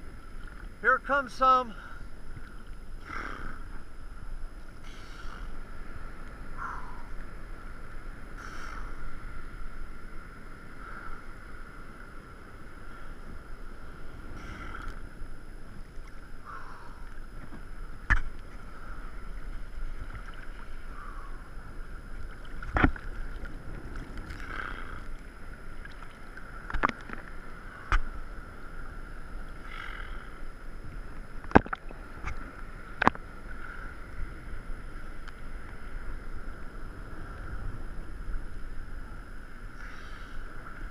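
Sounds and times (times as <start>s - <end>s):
waves lapping and splashing: 0.0s - 40.9s.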